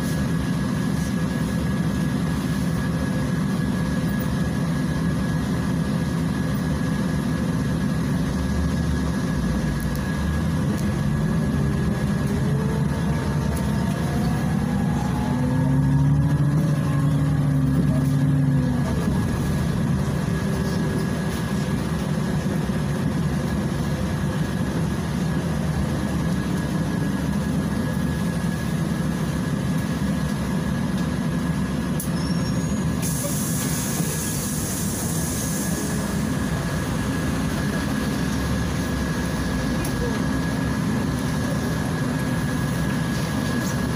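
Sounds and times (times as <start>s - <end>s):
bus engine droning: 0.0s - 43.9s.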